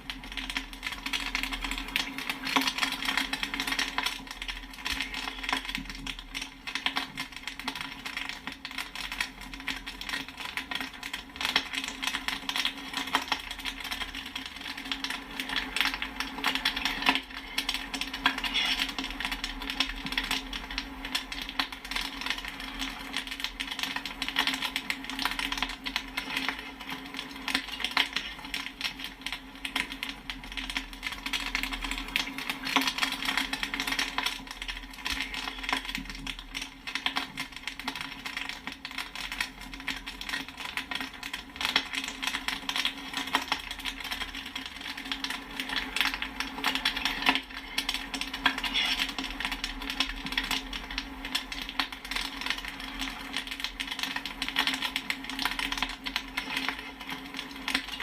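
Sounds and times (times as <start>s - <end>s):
popcorn kernels popping: 0.0s - 58.0s.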